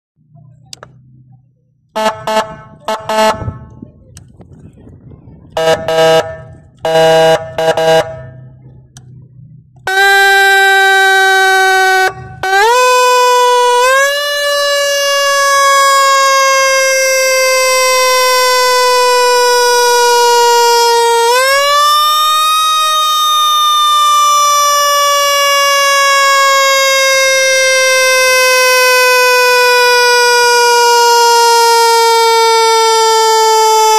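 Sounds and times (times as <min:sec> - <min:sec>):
siren air-horn blasts: 0:02.0 - 0:03.8, 0:05.5 - 0:08.6, 0:09.8 - 0:33.9.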